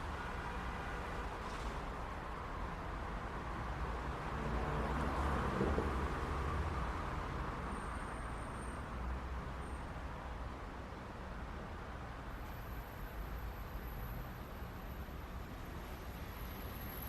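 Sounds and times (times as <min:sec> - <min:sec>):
road noise and engine rumble: 0:00.0 - 0:17.0.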